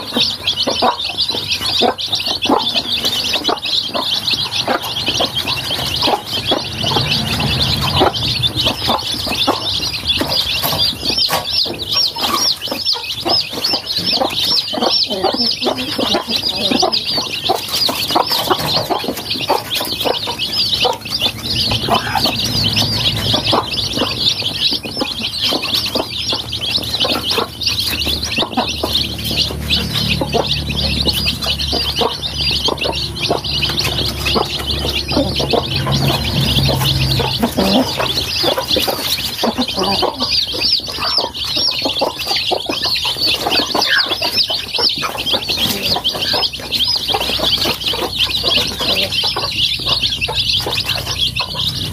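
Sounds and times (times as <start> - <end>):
chicks peeping: 0.0 - 51.9.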